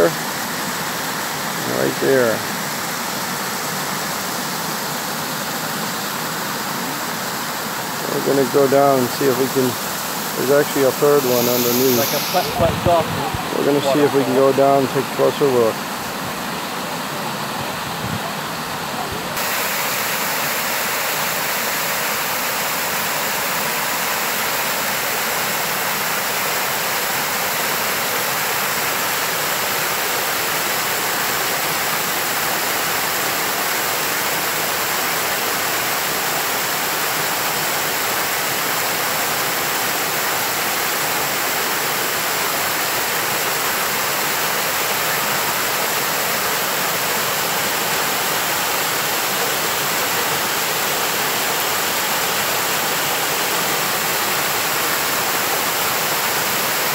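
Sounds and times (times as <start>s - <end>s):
water rushing over rocks: 0.0s - 56.9s.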